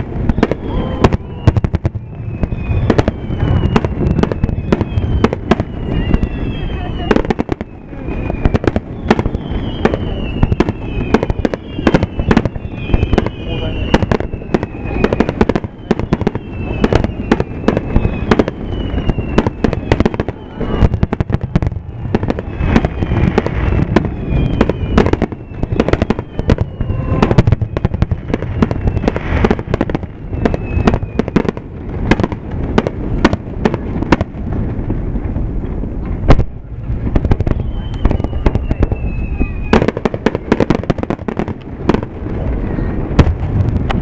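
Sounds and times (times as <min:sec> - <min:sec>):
falling firework whistles: 0:00.0 - 0:34.3, 0:36.2 - 0:44.0
fireworks bangs: 0:00.0 - 0:44.0.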